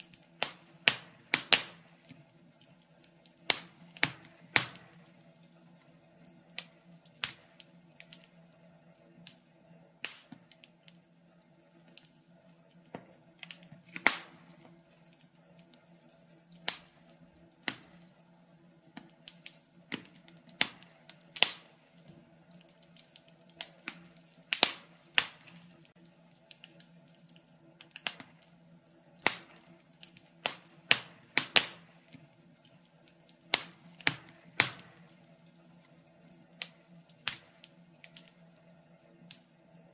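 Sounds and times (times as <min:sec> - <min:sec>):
faint steady hum: 0:00.0 - 0:39.9
fireplace fire crackling: 0:00.0 - 0:39.9.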